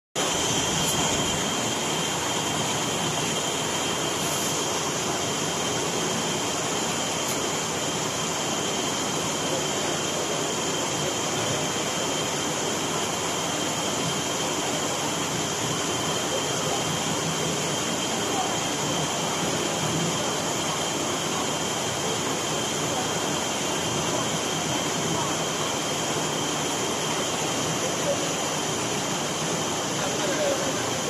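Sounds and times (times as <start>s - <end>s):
high-pitched machine whine: 0.2s - 31.0s
machine running: 0.2s - 31.0s.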